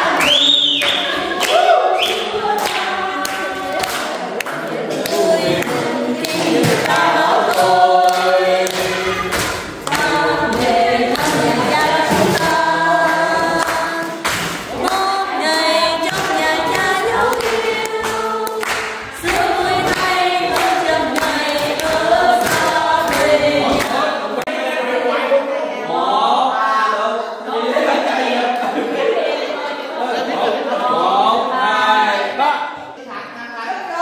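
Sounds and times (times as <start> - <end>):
choir singing unaccompanied: 0.0 - 32.5.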